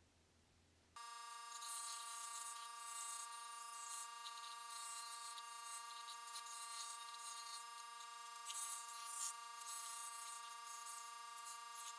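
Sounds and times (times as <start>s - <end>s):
scroll saw buzzing: 1.0s - 11.9s.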